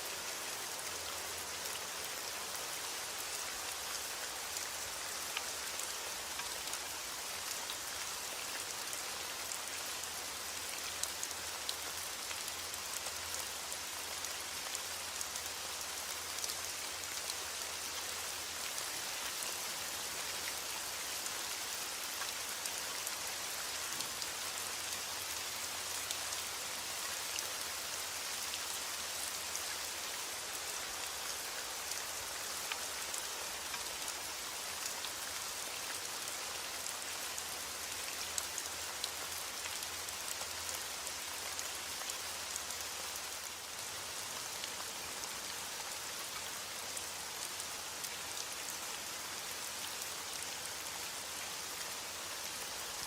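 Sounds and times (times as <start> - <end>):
rain falling on a surface: 0.0 - 53.0.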